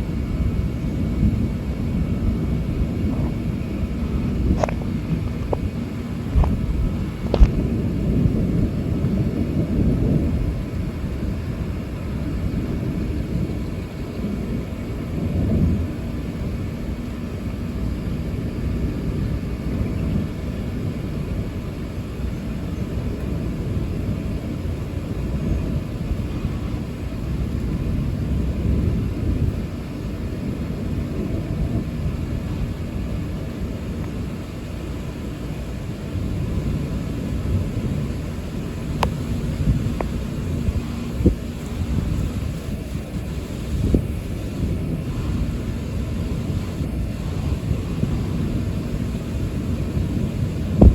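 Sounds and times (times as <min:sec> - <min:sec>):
thunder rumbling: 0:00.0 - 0:50.9.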